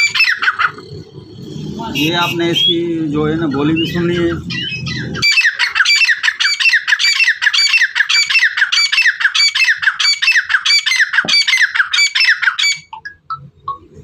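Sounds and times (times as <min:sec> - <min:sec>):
birds calling shrill rapid notes: 0:00.0 - 0:14.0.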